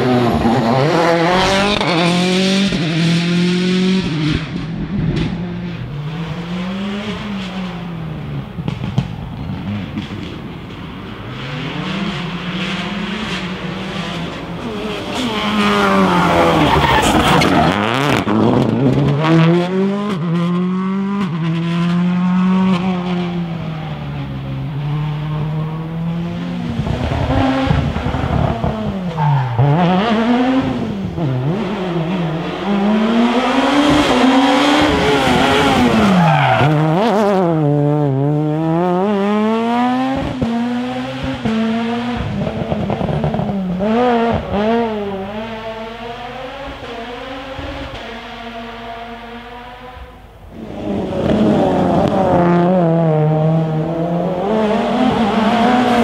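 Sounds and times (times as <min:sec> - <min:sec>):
rally cars passing at speed: 0:00.0 - 0:56.0.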